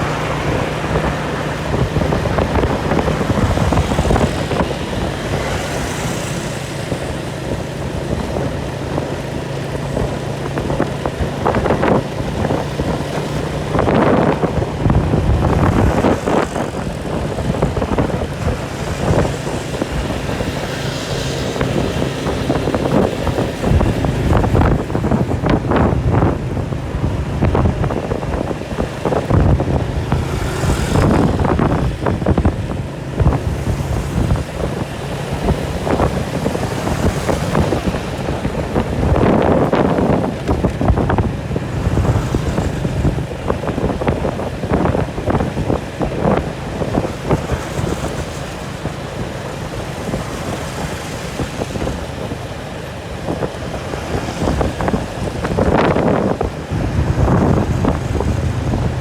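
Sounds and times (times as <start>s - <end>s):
engine running: 0.0s - 59.0s
wind buffeting microphone: 0.0s - 59.0s.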